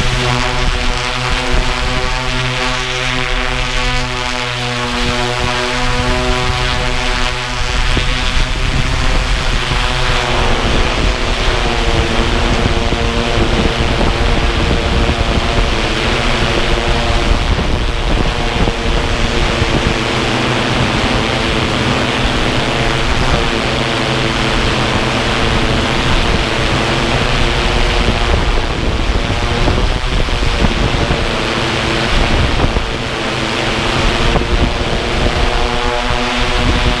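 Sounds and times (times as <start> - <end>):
air rushing over microphone: 0.0 - 37.0
drone propellers whirring: 0.0 - 37.0.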